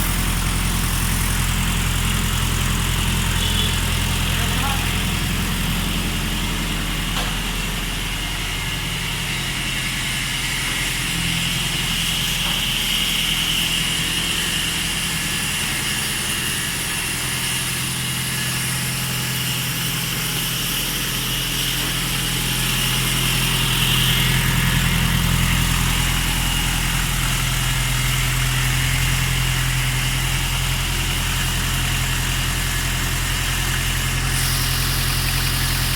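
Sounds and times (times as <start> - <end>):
tractor diesel engine idling: 0.0 - 35.9.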